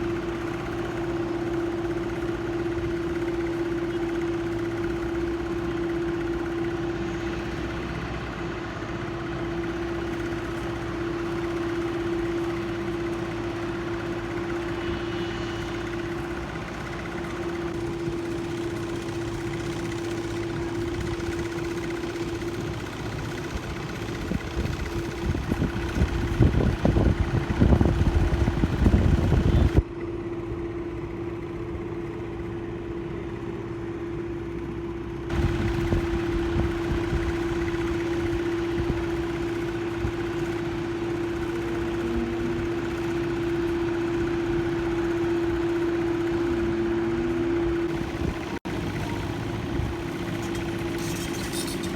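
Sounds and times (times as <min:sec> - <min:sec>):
steady engine hum: 0:00.0 - 0:51.9.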